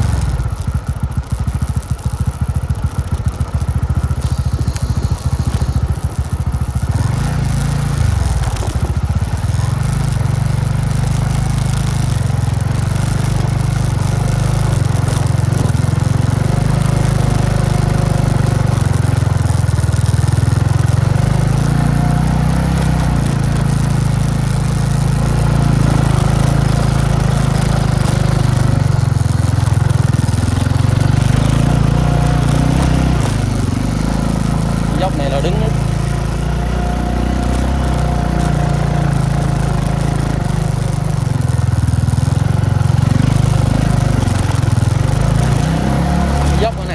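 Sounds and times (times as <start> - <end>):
motorcycle engine climbing hill: 0.0 - 46.9.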